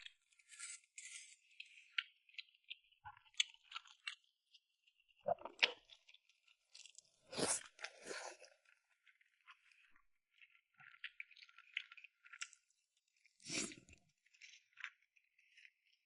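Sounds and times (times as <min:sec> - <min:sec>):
crunching and chewing: 0:00.1 - 0:16.0.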